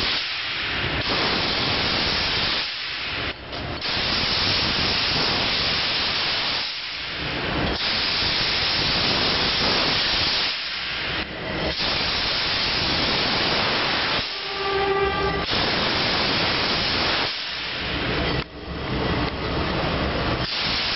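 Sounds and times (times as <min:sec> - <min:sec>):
steam wand hissing: 0:00.0 - 0:18.2, 0:20.4 - 0:20.9.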